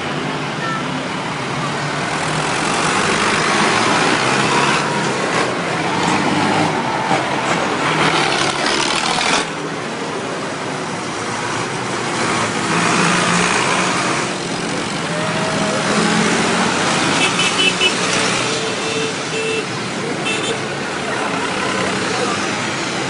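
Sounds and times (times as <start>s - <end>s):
tractor diesel engines passing: 0.0s - 23.0s.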